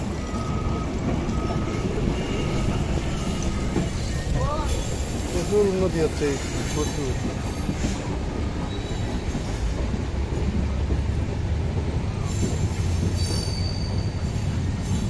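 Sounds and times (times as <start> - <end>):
high wheel squeal: 0.0 - 9.7, 12.2 - 15.0
train wheels rumbling on rails: 0.0 - 15.0.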